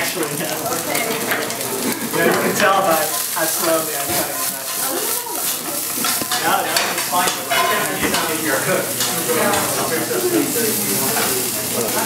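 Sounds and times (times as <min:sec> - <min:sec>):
greens sizzling in frying pan: 0:00.0 - 0:12.0.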